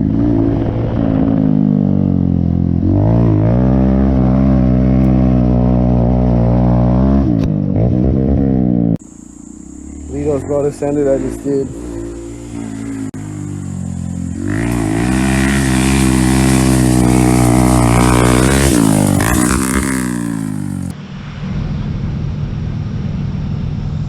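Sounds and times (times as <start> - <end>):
small motorcycle engine revving: 0.0 - 21.0
rough low engine sound: 0.0 - 24.0.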